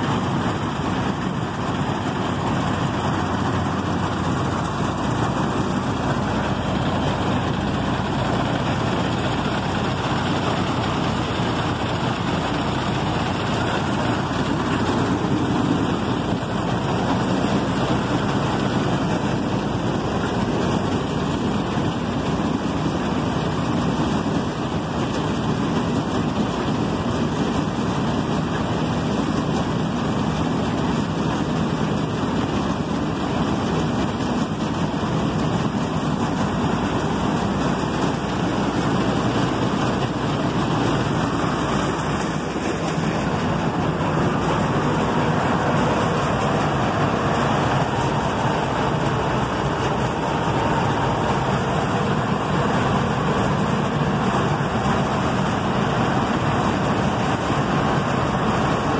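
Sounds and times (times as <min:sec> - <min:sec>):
combine harvester engine running: 0:00.0 - 0:58.9.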